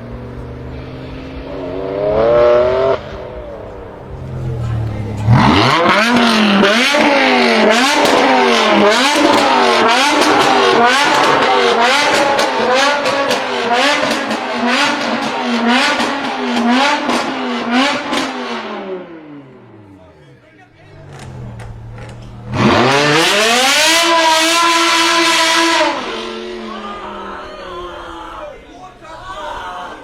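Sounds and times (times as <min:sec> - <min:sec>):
exhaust cracks: 0:00.0 - 0:18.7, 0:19.5 - 0:26.8
car engine revving hard: 0:00.0 - 0:19.9, 0:20.9 - 0:26.8.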